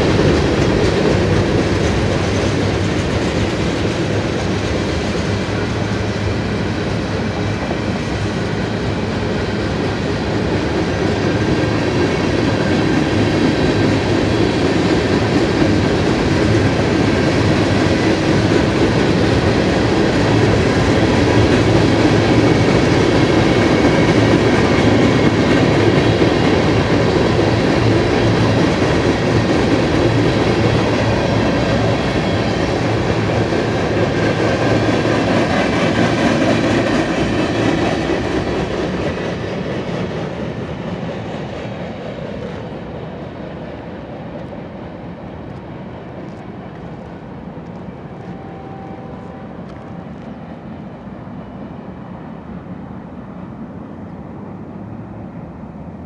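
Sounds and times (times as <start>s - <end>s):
train wheels clacking on rails: 0.0s - 52.2s.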